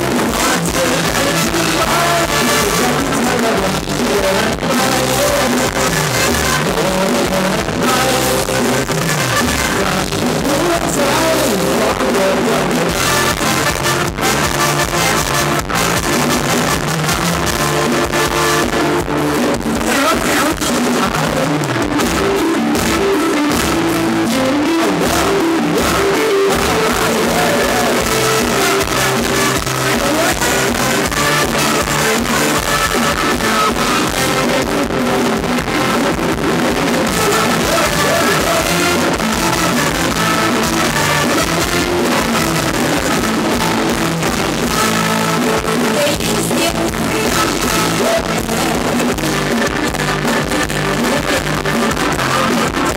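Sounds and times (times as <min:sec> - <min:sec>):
electric guitar: 0:00.0 - 0:52.9
live band dance music: 0:00.0 - 0:52.9.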